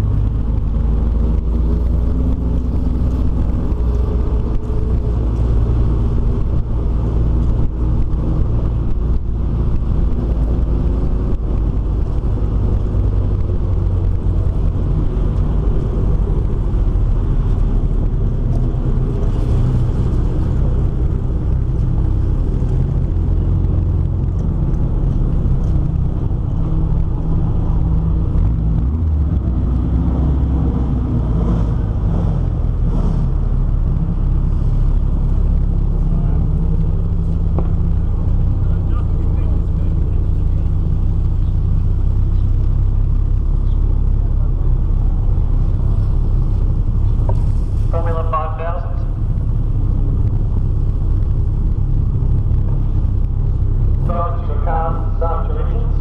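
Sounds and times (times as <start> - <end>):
car engine running at low revs: 0.0 - 56.0.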